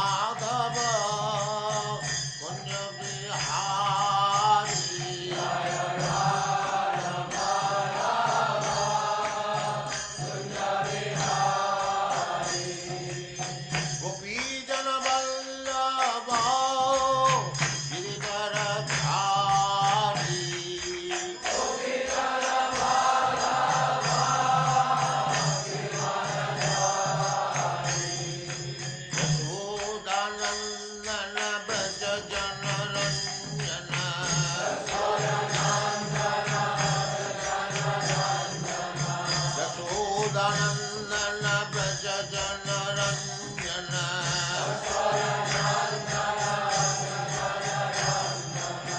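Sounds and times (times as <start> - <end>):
person chanting with music: 0.0 - 48.9.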